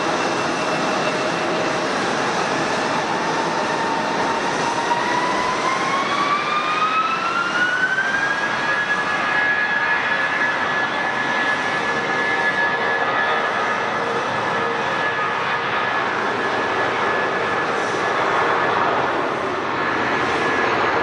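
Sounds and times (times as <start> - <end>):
jet engine whine rising: 0.0 - 21.0
jet engines roaring: 0.0 - 21.0.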